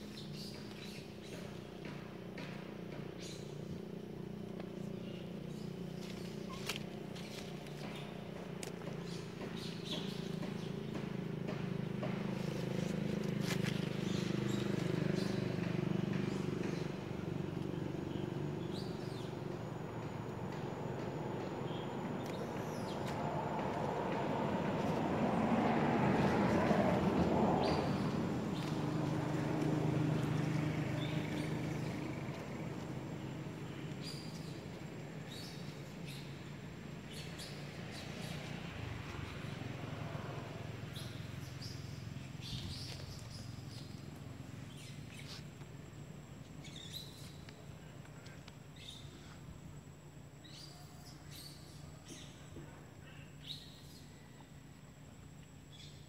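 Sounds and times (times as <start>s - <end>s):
outdoor background rumble: 0.0s - 56.0s.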